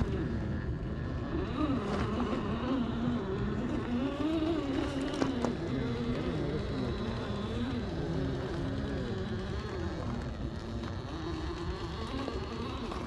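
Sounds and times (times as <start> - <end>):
rc car motor and gears whining: 0.0 - 13.0.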